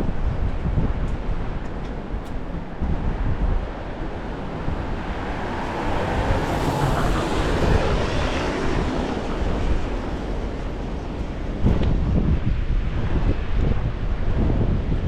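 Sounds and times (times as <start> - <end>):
street traffic: 0.0 - 15.0
wind buffeting microphone: 0.0 - 15.0.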